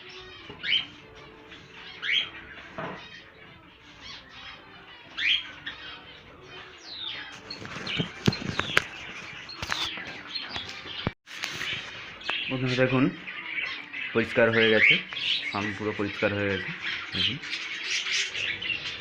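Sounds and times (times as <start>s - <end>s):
cage birds chirping: 0.0s - 19.0s.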